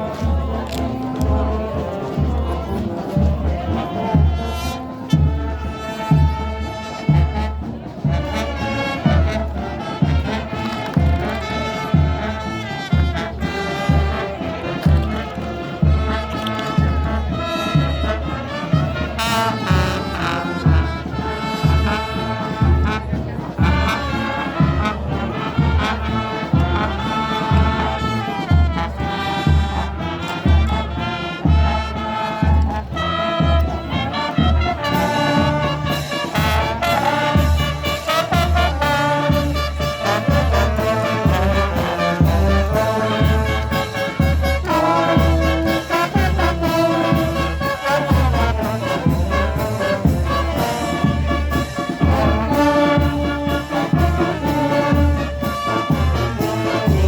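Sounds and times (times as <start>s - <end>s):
brass band playing a march: 0.0s - 57.0s.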